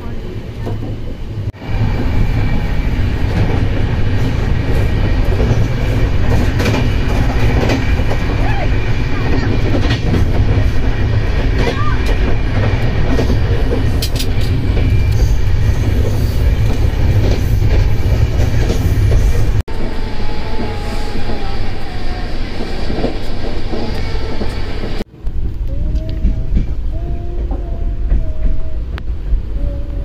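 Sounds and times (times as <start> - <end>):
freight train passing: 0.0 - 30.0
train rumbling and rattling: 0.0 - 30.0.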